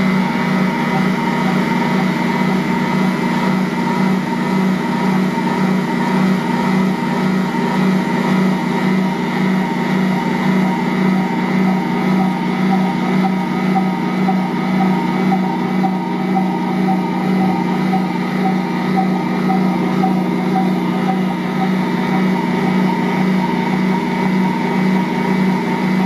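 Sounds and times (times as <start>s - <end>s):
stand mixer kneading dough: 0.0s - 26.0s.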